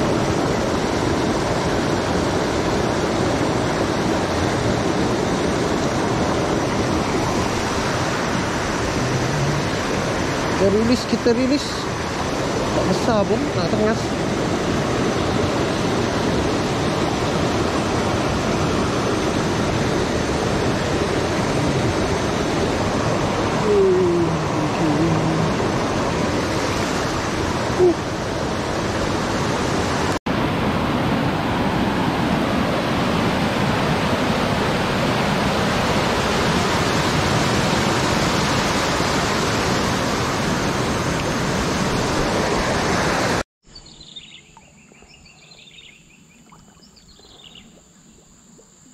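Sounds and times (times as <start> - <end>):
stream rushing over stones: 0.0 - 43.4.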